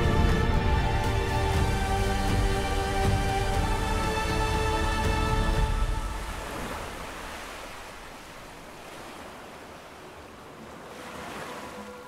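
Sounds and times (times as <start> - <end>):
ocean waves washing: 0.0 - 12.0.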